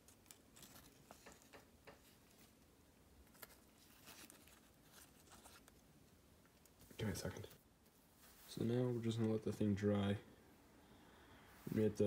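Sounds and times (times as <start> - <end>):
faint paper rustling: 0.0 - 9.8.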